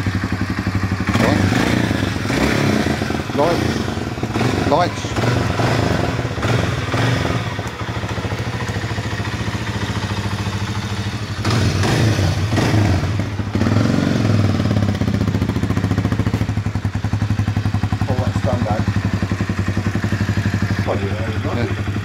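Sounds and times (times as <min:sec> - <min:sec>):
motorcycle engine idling: 0:00.0 - 0:22.0
engine revving: 0:01.0 - 0:22.0.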